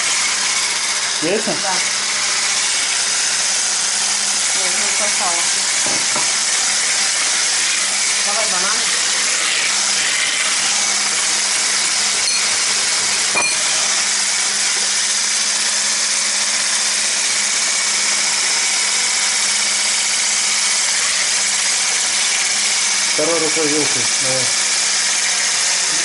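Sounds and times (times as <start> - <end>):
electric hand mixer whirring: 0.0 - 26.0.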